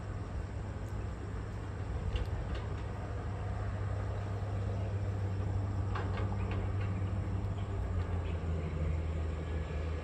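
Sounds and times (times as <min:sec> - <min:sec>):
distant traffic rumble: 0:00.0 - 0:10.0.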